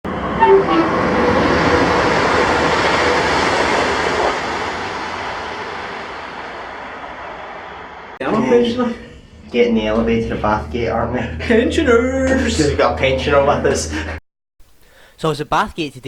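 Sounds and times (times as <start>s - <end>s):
train running past: 0.1s - 14.2s.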